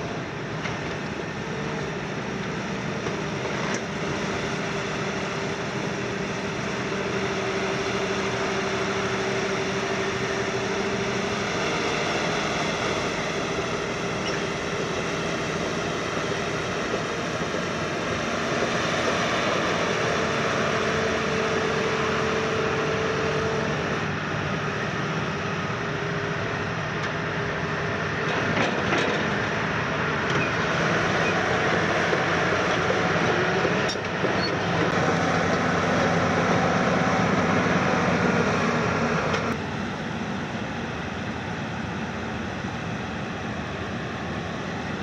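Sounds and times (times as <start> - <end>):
excavator engine and hydraulics: 0.0 - 45.0.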